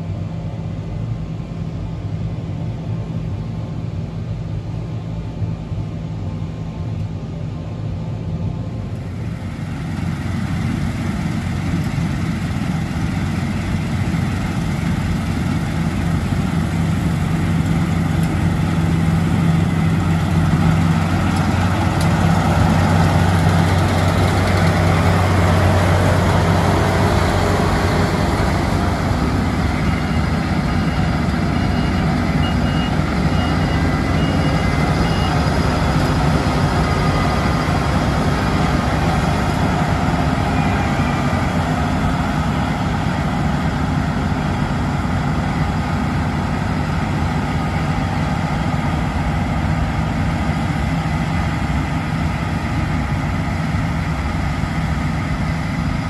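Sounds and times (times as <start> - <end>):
combine harvester diesel drone: 0.0 - 56.0.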